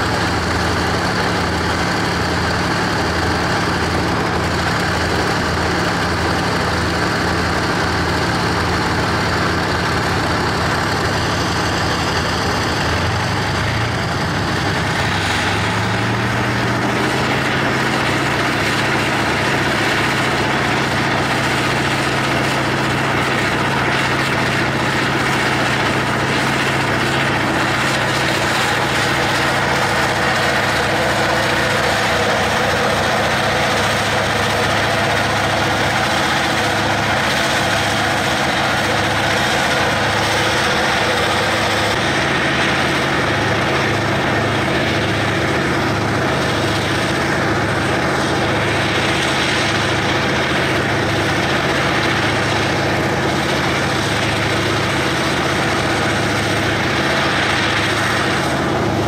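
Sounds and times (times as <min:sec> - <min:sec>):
tank engine idling: 0:00.0 - 0:59.0.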